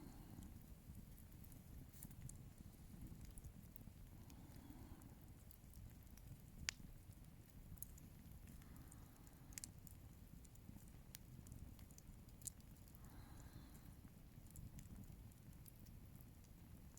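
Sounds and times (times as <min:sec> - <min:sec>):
bonfire crackling and popping: 0:00.0 - 0:16.9.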